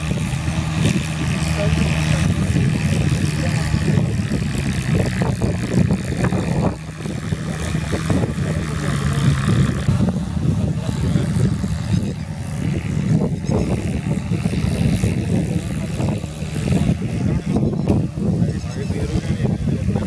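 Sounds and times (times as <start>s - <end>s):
rotary tiller churning mud: 0.0s - 17.6s
tractor diesel engine running: 0.0s - 19.2s.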